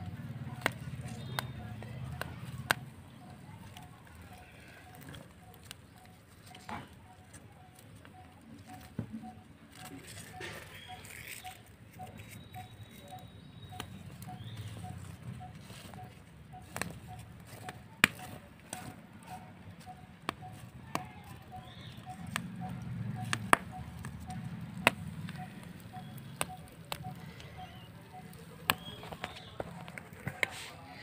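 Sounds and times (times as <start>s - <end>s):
faint repeating chirp: 0.0s - 29.6s
fire crackling and popping: 0.0s - 30.9s.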